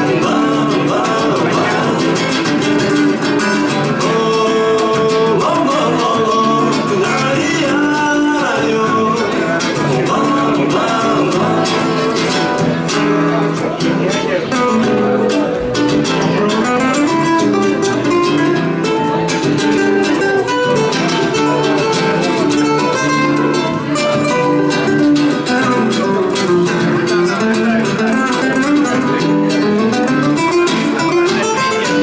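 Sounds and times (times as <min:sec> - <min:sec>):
classical guitars playing: 0:00.0 - 0:32.0.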